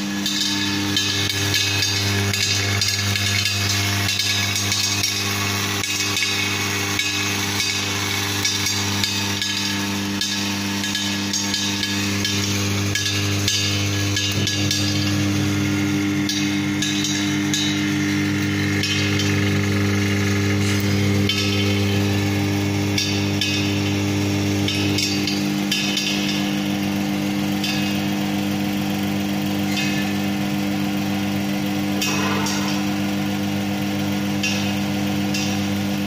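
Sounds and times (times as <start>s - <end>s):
oil press machine hum: 0.0s - 36.0s.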